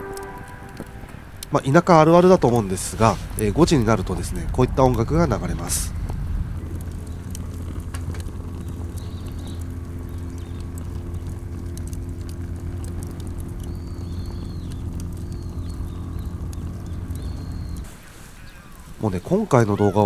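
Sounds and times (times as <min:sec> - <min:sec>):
boat engine droning: 0:00.0 - 0:19.5.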